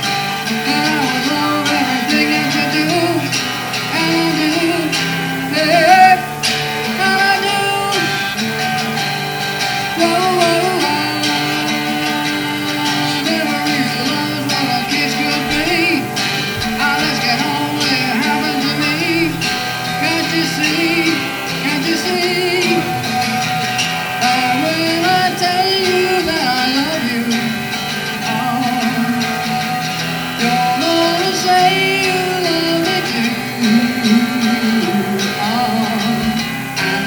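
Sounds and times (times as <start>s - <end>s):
strummed acoustic guitar song: 0.0s - 37.0s.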